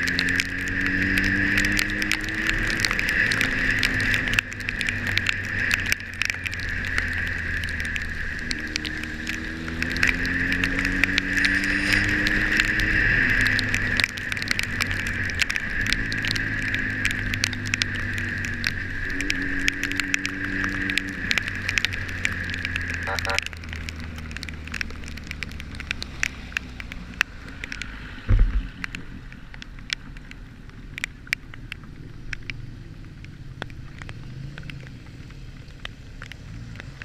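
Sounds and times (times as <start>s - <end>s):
raindrops ticking on camera: 0.0s - 37.0s
wind and road hiss: 0.0s - 37.0s.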